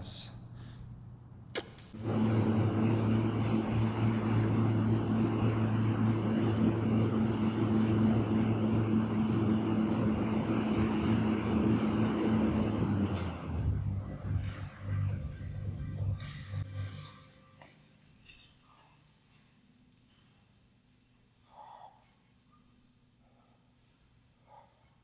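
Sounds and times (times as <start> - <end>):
exercise bike fan whirring: 0.0 - 25.0.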